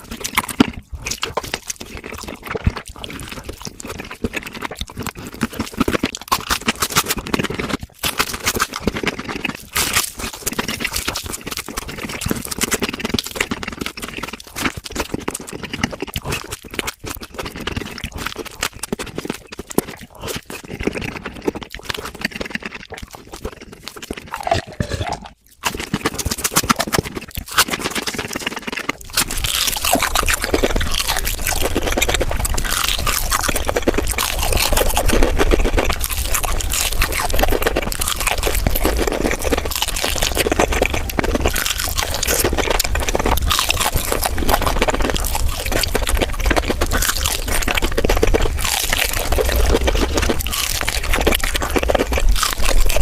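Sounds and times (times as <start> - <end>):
rapid chewing and mouth noises: 0.0 - 53.0.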